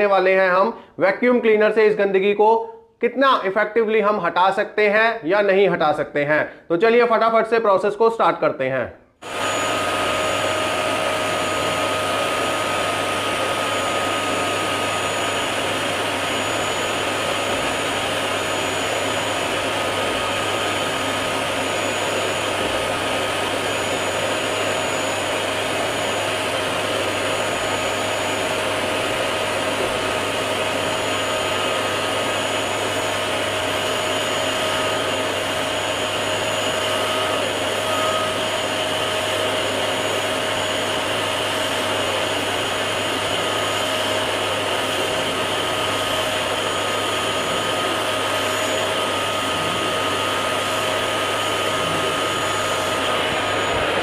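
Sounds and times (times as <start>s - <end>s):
vacuum cleaner motor whining: 9.2s - 54.0s.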